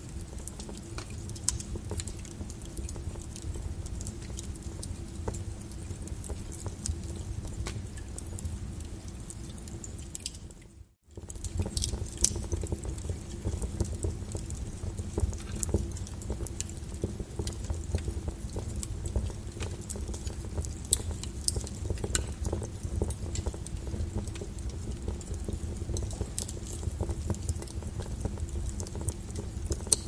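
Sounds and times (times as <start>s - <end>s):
rain pattering: 0.0s - 30.0s
wood fire crackling: 0.0s - 30.0s.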